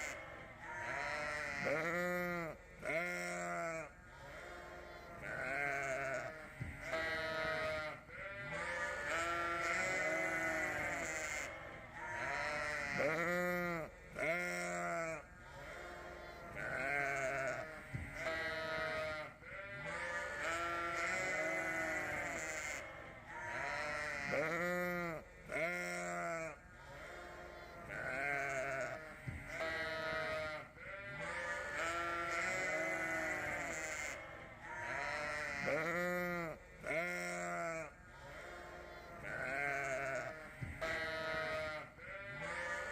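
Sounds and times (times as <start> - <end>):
sheep bleating: 0.0 - 42.9.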